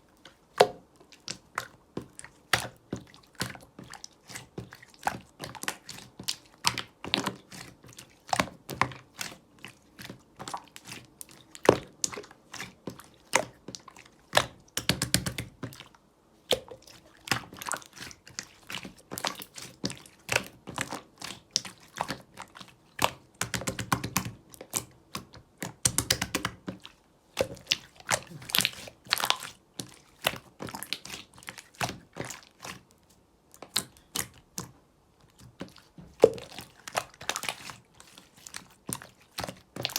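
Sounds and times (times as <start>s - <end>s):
slime squishing with sticky pops: 0.1s - 39.9s.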